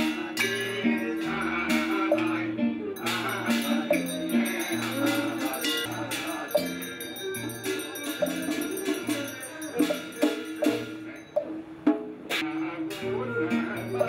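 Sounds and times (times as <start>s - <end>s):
bells and percussion music: 0.0s - 11.7s, 12.4s - 14.0s.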